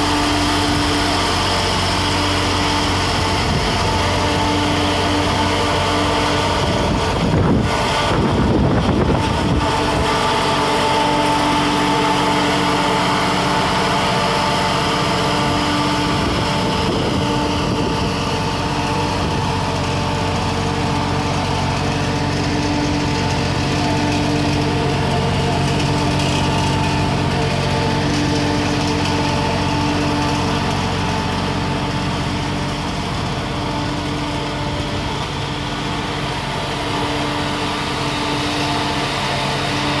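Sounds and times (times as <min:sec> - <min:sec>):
diesel engine idling: 0:00.0 - 0:40.0
higher hum: 0:00.0 - 0:40.0.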